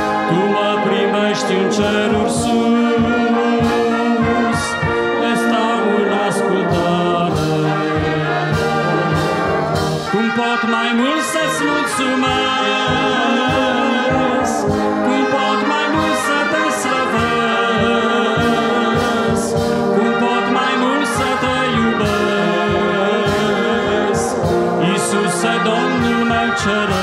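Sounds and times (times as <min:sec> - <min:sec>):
brass band playing a hymn: 0:00.0 - 0:27.0.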